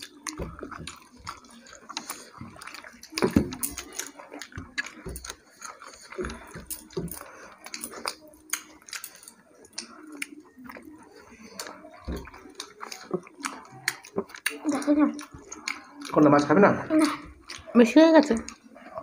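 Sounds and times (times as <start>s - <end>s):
chewing and mouth smacks: 0.0s - 19.0s.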